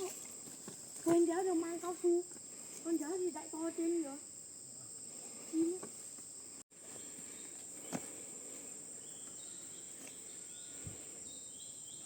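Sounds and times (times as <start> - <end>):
insects buzzing drone: 0.0 - 12.0.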